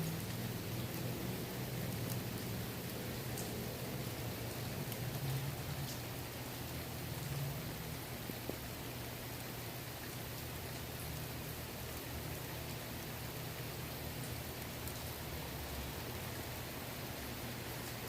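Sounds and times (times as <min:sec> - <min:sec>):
rain falling on water: 0:00.0 - 0:18.0.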